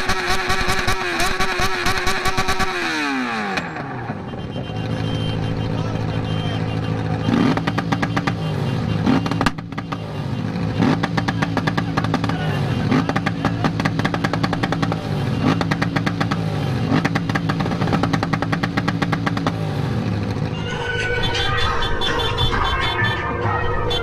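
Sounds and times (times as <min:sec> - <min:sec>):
exhaust crackle: 0:00.0 - 0:24.0
loud motorcycle engine revving: 0:00.0 - 0:24.0.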